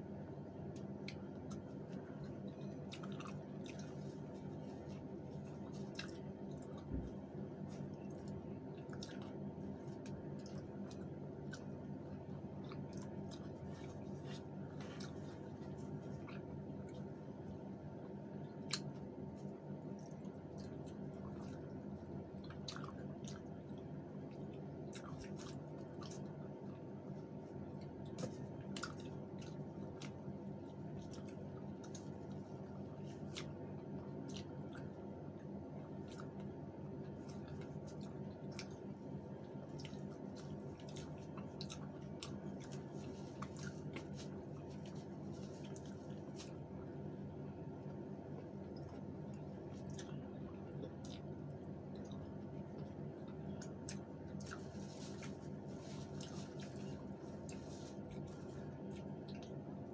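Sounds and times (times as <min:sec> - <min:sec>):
steady low hum: 0:00.0 - 0:59.9
chewing with wet mouth clicks: 0:00.7 - 0:59.9.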